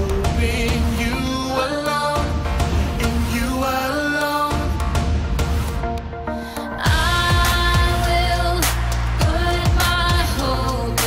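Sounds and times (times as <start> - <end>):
person singing: 0.0 - 5.1, 6.4 - 11.0
bass: 0.0 - 11.0.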